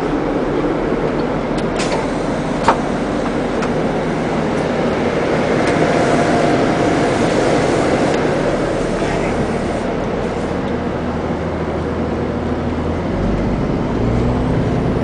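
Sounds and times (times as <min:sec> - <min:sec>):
bus engine rumble and hiss: 0:00.0 - 0:15.0.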